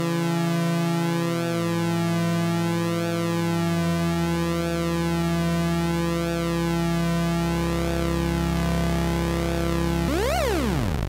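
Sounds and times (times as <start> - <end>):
buzzy synthesizer drone: 0.1 - 11.0.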